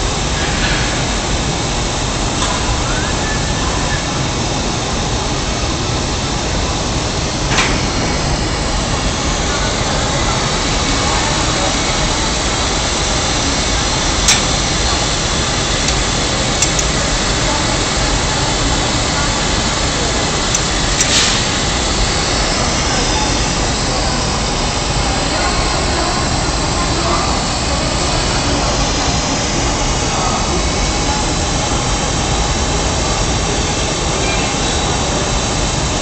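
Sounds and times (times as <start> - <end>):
furnace roar: 0.0 - 36.0.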